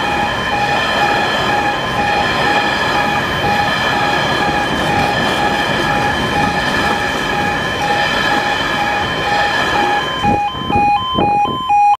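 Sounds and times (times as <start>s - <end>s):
freight train rumble and clatter: 0.0s - 10.8s
crossing warning alarm beeping: 0.0s - 12.0s.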